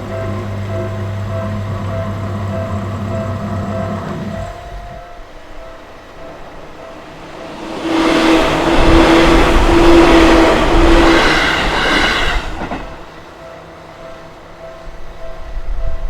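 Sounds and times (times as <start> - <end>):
crossing warning bell dinging: 0.0 - 16.0
electric train passing: 0.0 - 16.0.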